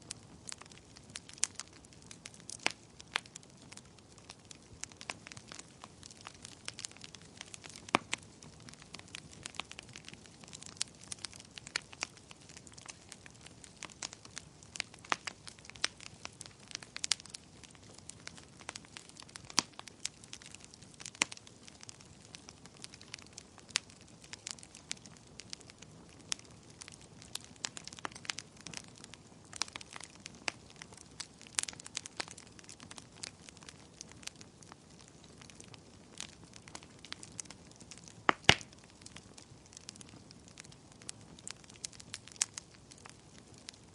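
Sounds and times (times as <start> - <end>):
faint steady hiss: 0.0 - 43.9
fire crackling and popping: 0.0 - 43.9.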